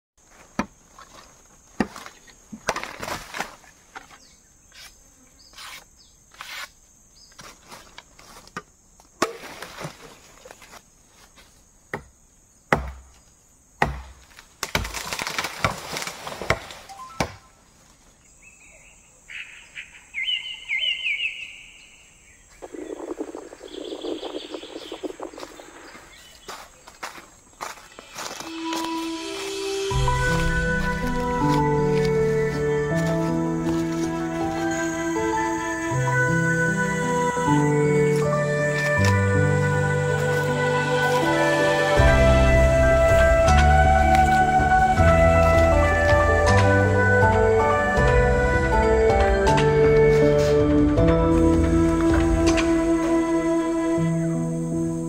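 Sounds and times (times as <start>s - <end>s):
high insect drone: 0.2s - 55.0s.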